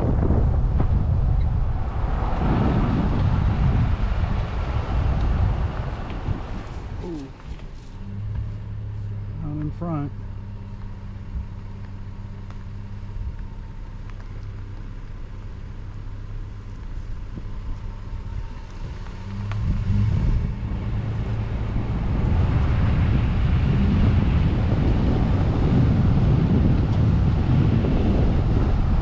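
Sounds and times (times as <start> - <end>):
car engine humming: 0.0 - 29.0
road and wind noise: 0.0 - 29.0.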